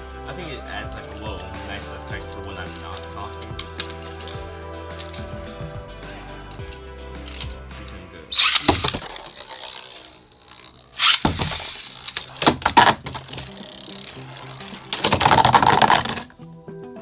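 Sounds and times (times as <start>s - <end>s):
quiet background music: 0.0s - 10.5s, 11.1s - 17.0s
spinning tops clashing and scraping: 0.6s - 16.3s.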